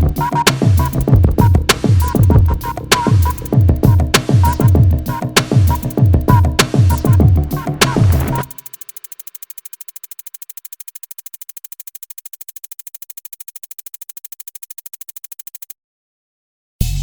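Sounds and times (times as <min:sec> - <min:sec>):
rapid even electronic pulsing: 0:00.0 - 0:15.7.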